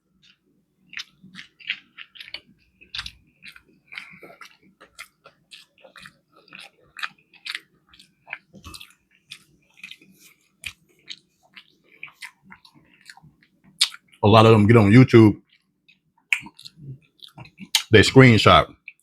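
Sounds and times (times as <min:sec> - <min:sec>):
person chewing: 0:00.1 - 0:17.9, 0:18.7 - 0:19.0.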